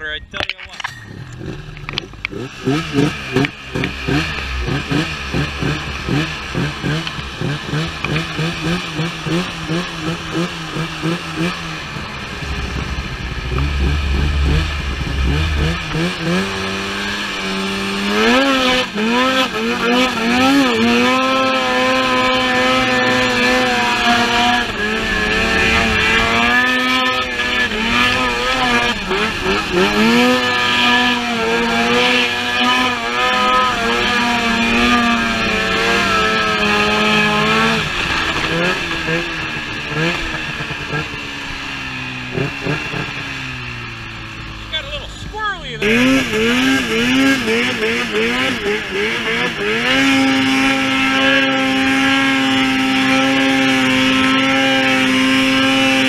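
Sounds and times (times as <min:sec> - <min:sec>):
snowmobile engine revving: 0:01.0 - 0:56.0.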